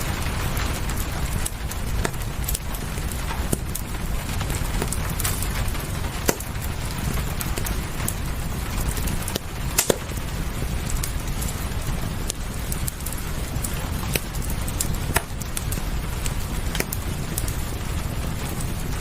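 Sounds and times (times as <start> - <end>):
rain hissing: 0.0 - 19.0
wood fire crackling: 0.0 - 19.0.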